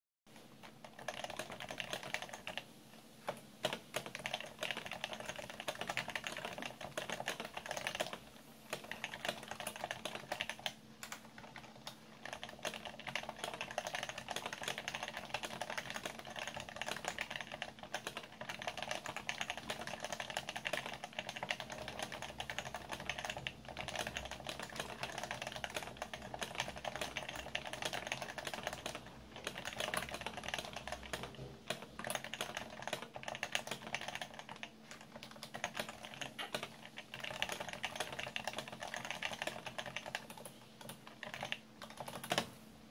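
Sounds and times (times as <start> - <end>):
fast typing on keyboard: 0.4 - 42.6.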